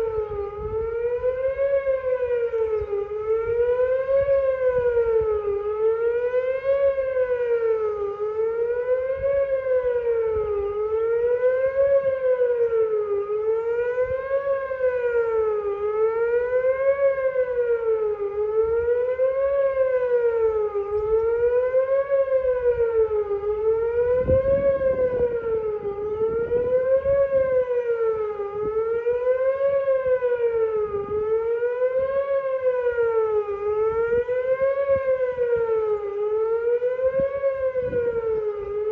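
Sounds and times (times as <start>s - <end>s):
outdoor warning siren wailing: 0.0s - 38.9s.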